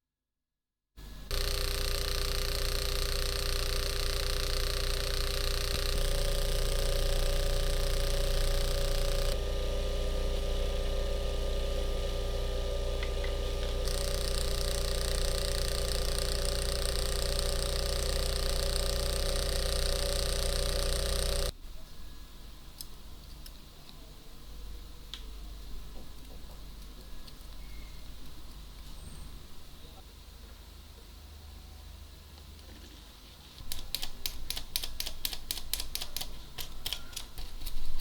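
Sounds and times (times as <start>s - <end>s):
small machine electric hum: 1.0s - 38.0s.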